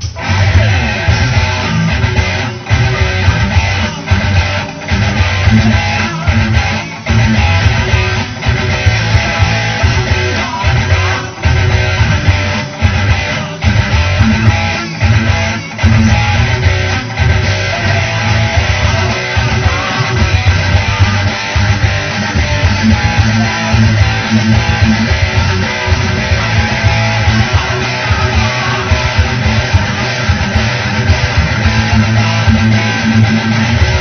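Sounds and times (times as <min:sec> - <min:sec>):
guitar band instrumental music: 0:00.0 - 0:34.0.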